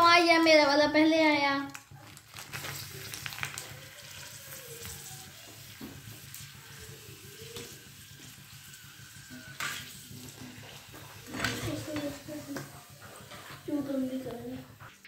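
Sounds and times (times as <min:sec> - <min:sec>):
dough frying in oil sizzling: 0:00.0 - 0:15.0.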